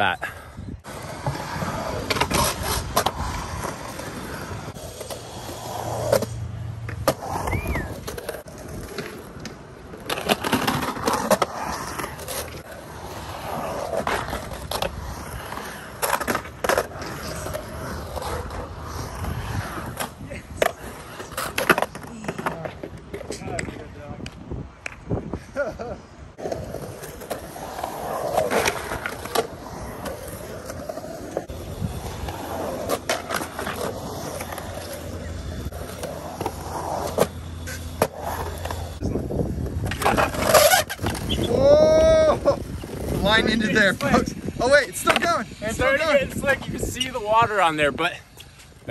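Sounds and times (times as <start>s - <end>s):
skateboard trucks grinding coping: 0.0s - 23.8s, 25.6s - 48.8s
skateboard wheels rolling on concrete: 0.0s - 48.9s.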